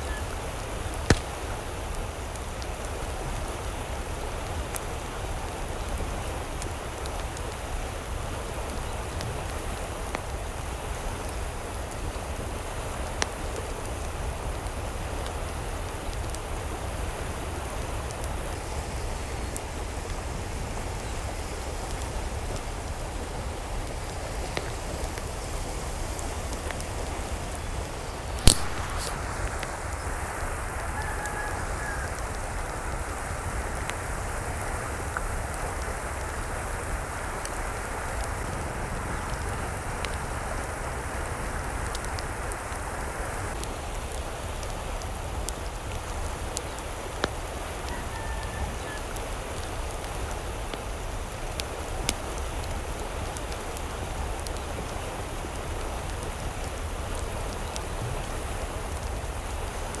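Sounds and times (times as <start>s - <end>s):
water falling hiss: 0.0s - 60.0s.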